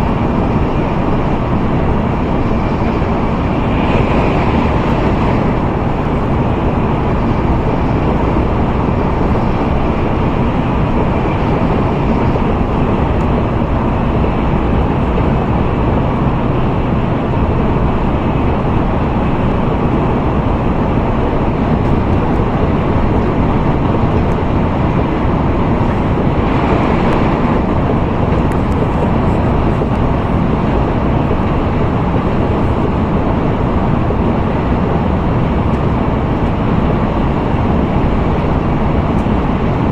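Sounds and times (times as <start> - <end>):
train running at speed: 0.0 - 39.9.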